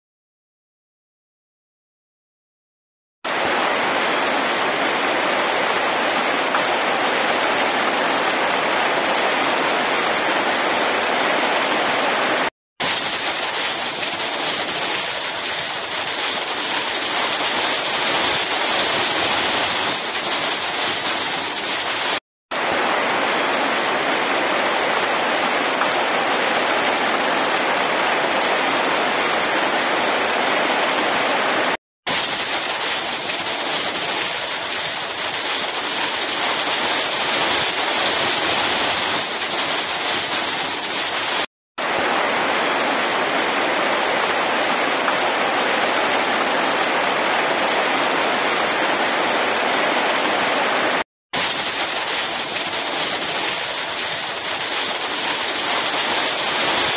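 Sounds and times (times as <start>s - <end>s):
heavy rain pouring: 3.3s - 56.9s.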